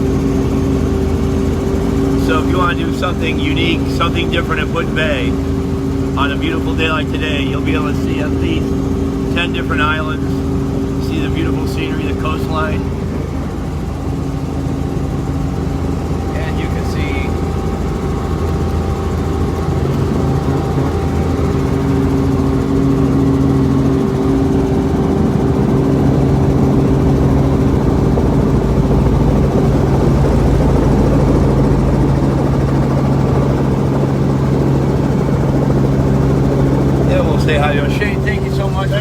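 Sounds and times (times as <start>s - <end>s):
helicopter engine and rotors: 0.0s - 39.0s.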